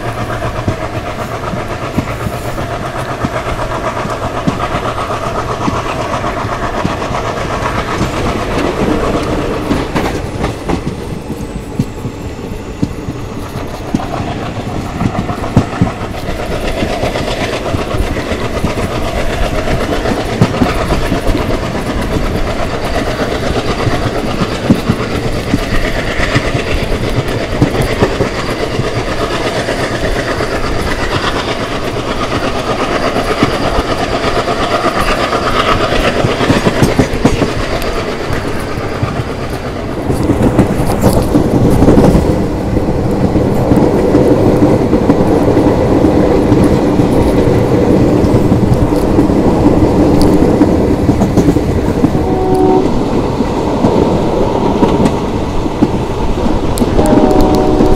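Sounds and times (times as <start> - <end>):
train coaches rumbling: 0.0 - 57.9
wheels clattering over rail joints: 0.0 - 57.9.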